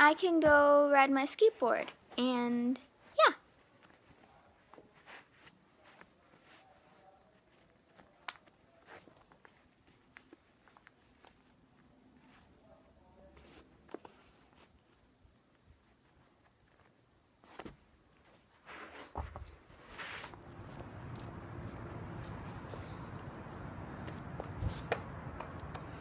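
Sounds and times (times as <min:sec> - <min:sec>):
faint rustling: 0:03.0 - 0:25.0.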